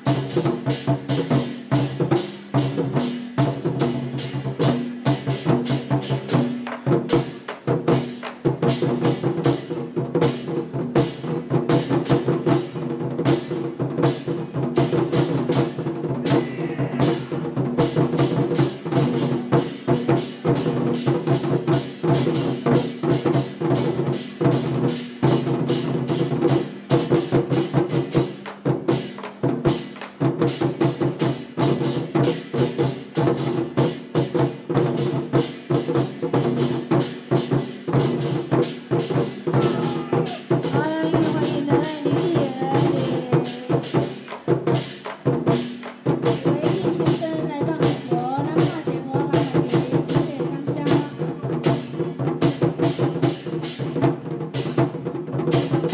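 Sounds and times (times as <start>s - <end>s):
war drums beaten fast: 0.0s - 55.9s.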